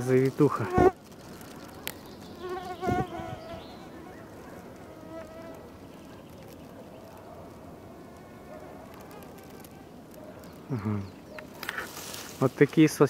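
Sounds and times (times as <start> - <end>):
insect buzzing: 0.4 - 7.2, 7.8 - 12.4.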